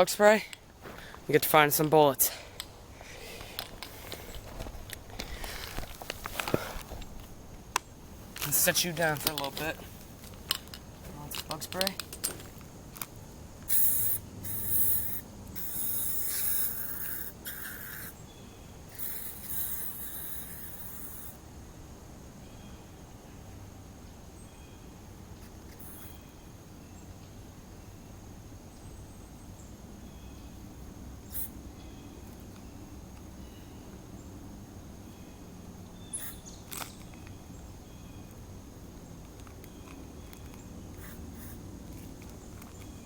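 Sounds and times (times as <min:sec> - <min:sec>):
faint background noise: 0:00.0 - 0:43.0.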